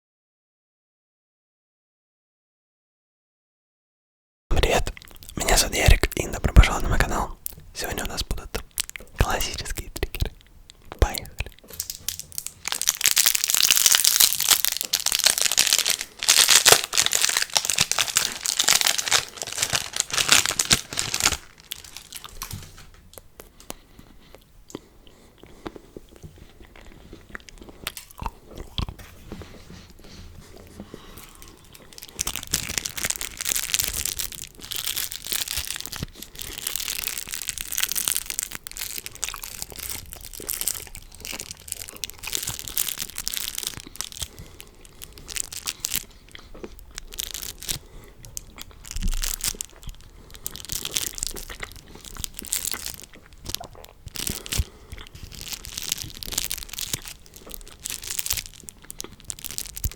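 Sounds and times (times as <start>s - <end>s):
close-miked crackling and crunching: 4.5s - 59.9s.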